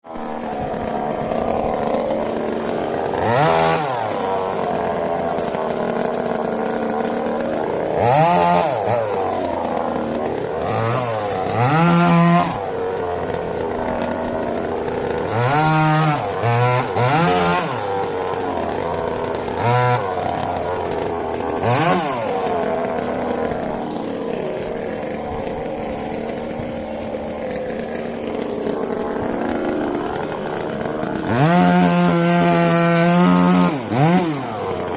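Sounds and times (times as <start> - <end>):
chainsaw engine revving: 0.0 - 34.9.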